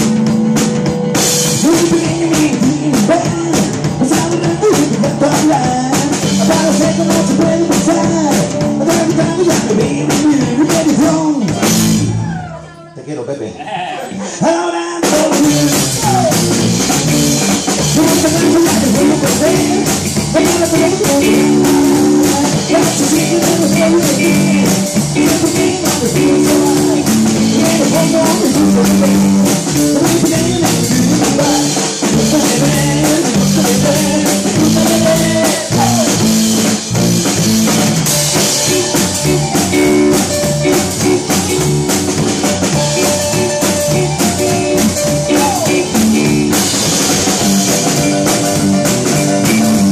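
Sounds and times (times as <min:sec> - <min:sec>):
drum kit beat: 0:00.0 - 0:12.5, 0:14.8 - 0:49.9
electric guitar: 0:00.0 - 0:12.7, 0:15.0 - 0:49.9
live rock band playing: 0:00.0 - 0:12.7, 0:14.2 - 0:49.9.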